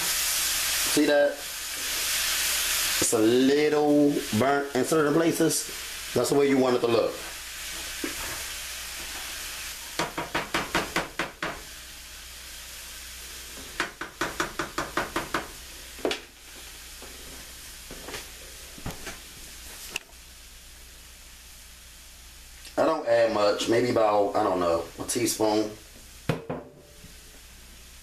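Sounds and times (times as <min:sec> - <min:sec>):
food sizzling in a skillet: 0:00.0 - 0:28.0.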